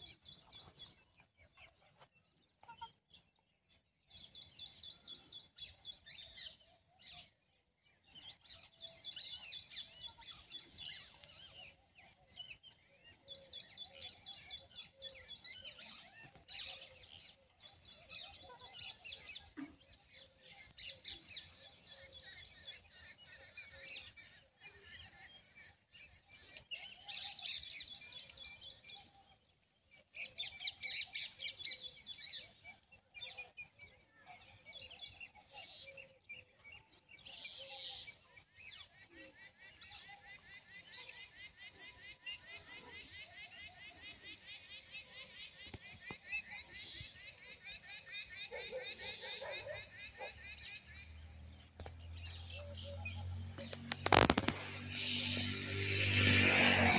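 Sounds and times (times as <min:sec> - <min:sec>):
small birds trilling: 0:08.0 - 0:56.9.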